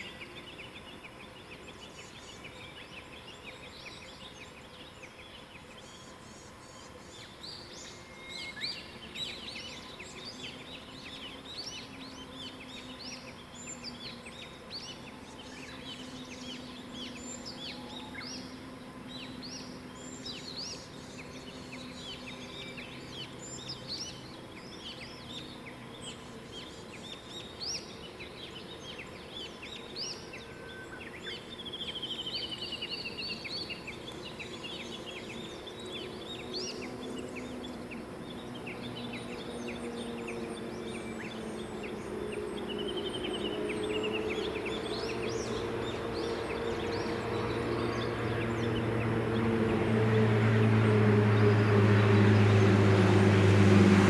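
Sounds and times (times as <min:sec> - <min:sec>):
songbirds chorus chirping: 0:00.0 - 0:54.0.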